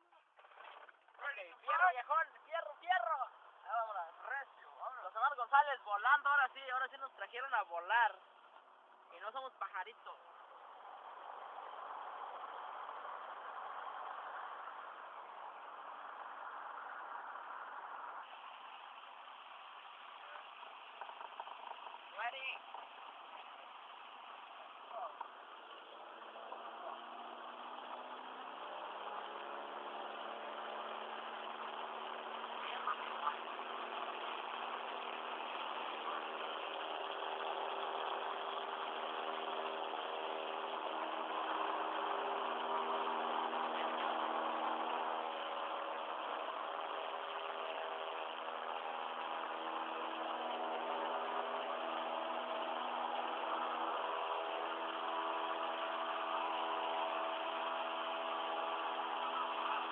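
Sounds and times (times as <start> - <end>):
propeller airplane engine droning: 7.0 - 59.9.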